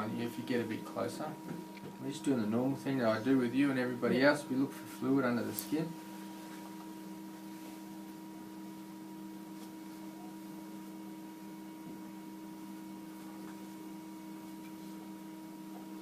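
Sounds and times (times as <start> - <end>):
electrical hum: 0.0 - 16.0
faint room hiss: 0.0 - 16.0.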